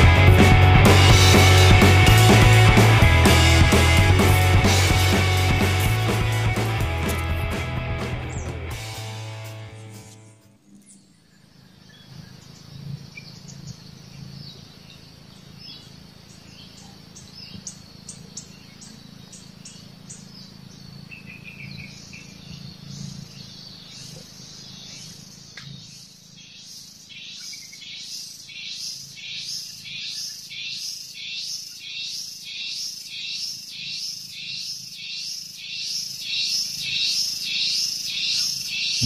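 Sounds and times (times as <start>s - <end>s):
wild birds chirping: 0.0s - 9.2s, 10.6s - 39.0s.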